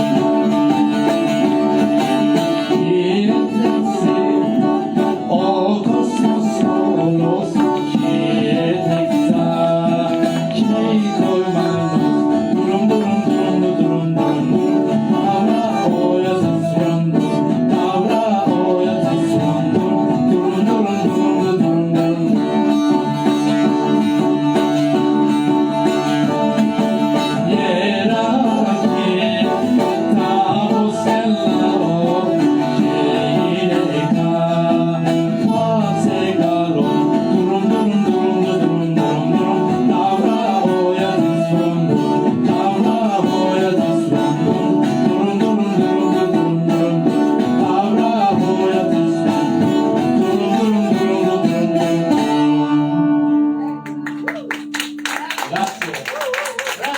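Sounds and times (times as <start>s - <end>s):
person singing: 0.0s - 54.5s
plucked guitar: 0.0s - 55.6s.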